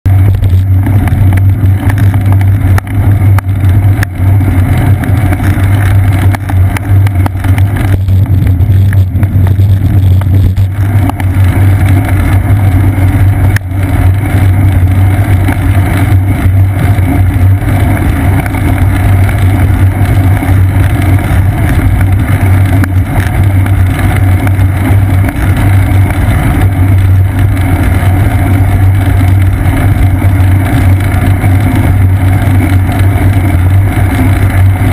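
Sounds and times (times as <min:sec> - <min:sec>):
road vibration rumble: 0:00.0 - 0:34.9
wind rumble on microphone: 0:00.0 - 0:34.9.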